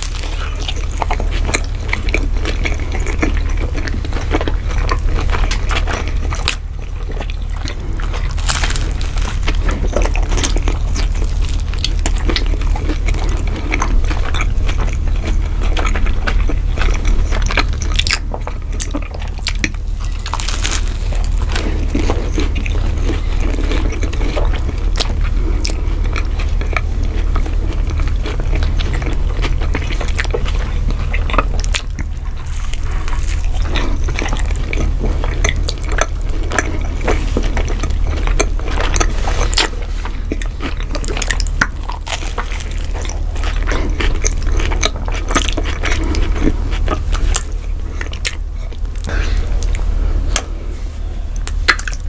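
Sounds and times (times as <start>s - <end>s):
food crunching while chewing: 0.0s - 52.0s
steady low hum: 0.0s - 52.0s.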